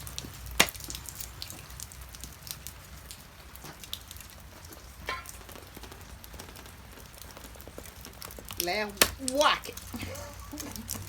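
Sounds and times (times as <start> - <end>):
light rain pattering: 0.0 - 11.0
raindrop tap: 0.0 - 11.0.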